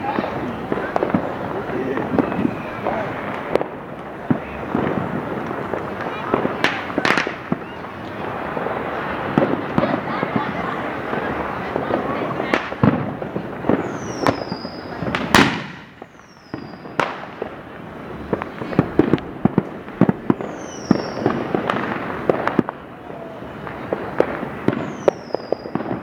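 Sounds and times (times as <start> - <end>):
distant fireworks crackling and booming: 0.0 - 26.0
firecracker bangs and pops: 0.0 - 26.0
firework whistles: 0.0 - 26.0.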